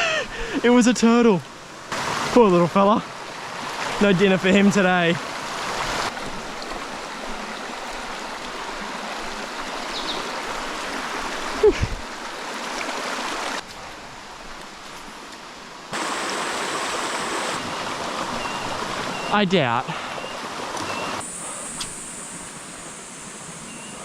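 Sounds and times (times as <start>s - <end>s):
creek water splashing over rocks: 1.0s - 24.0s.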